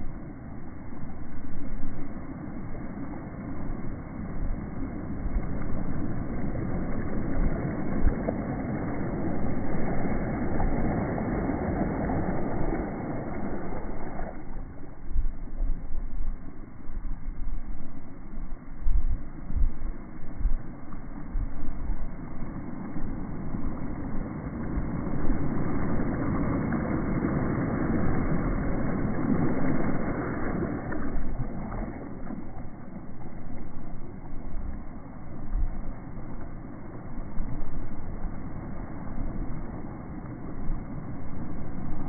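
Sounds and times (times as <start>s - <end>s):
wind and water rushing: 0.0s - 42.0s
wind buffeting microphone: 0.0s - 42.0s.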